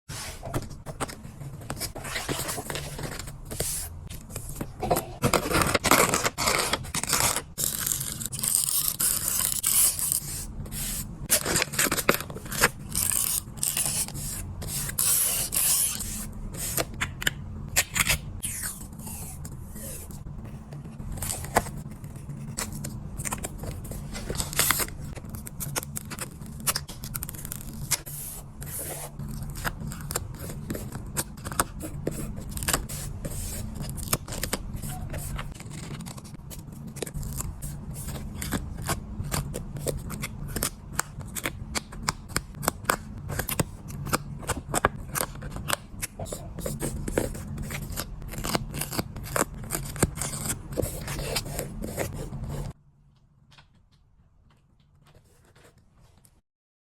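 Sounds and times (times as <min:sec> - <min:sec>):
paper stickers peeling and rubbing: 0:00.5 - 0:52.8.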